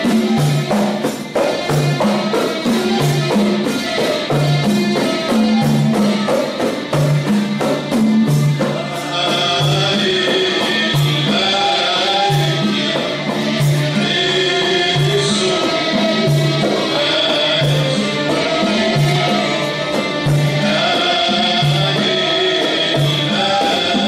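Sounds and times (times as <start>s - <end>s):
drums beating: 0.0s - 24.0s
person singing: 0.0s - 24.0s.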